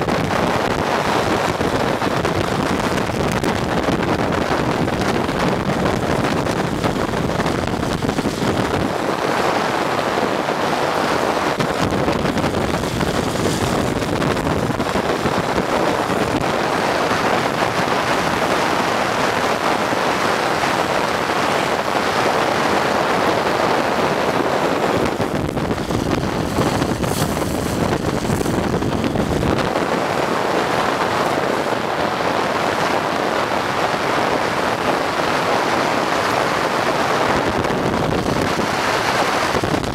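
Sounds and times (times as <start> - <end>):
car road noise on asphalt: 0.0 - 39.9
wind rushing over microphone: 0.0 - 39.9.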